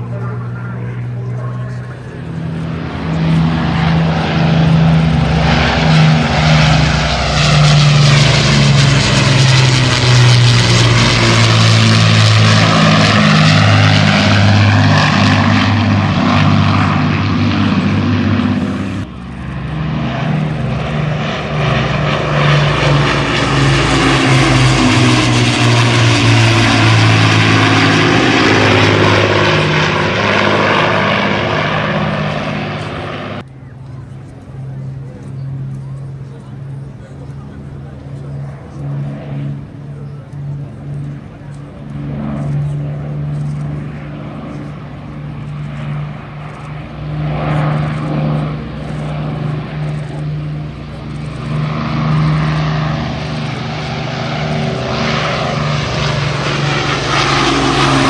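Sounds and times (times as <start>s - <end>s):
propeller aircraft droning past: 0.0s - 58.0s.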